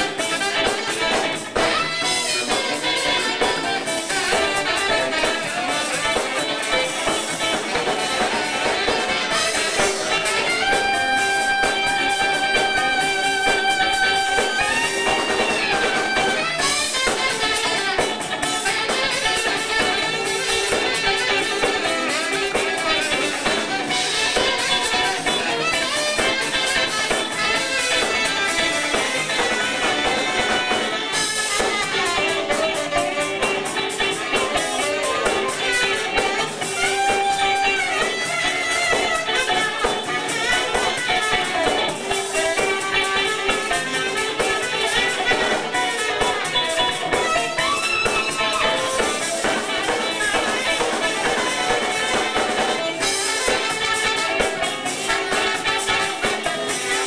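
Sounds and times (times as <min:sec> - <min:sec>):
bass: 0:00.0 - 0:57.0
drum kit: 0:00.0 - 0:57.0
electric guitar: 0:00.0 - 0:57.0
horn section: 0:00.0 - 0:57.0
keyboard: 0:00.0 - 0:57.0.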